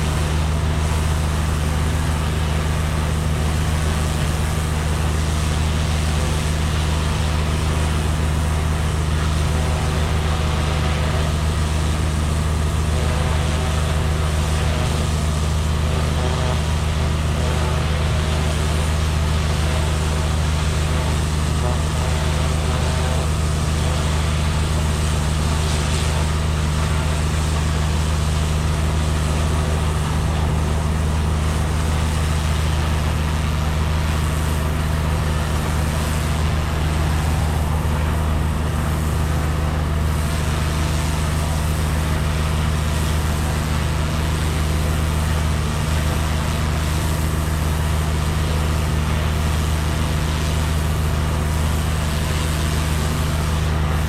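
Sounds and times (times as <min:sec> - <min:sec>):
pressure washer engine drone: 0:00.0 - 0:54.0
spraying water hiss: 0:00.0 - 0:54.0.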